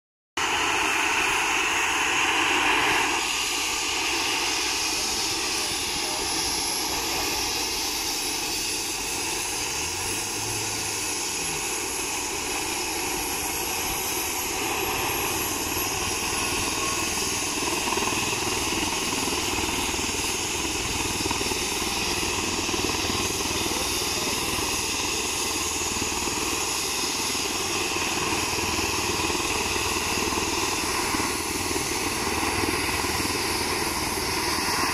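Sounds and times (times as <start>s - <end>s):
helicopter turbine whine: 0.4s - 34.9s.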